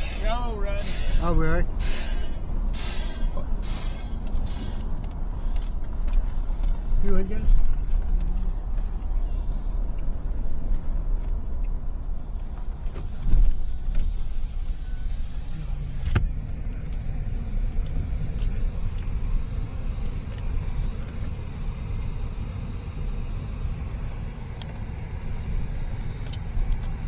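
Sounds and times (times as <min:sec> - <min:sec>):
low rumble inside a car: 0:00.0 - 0:27.0.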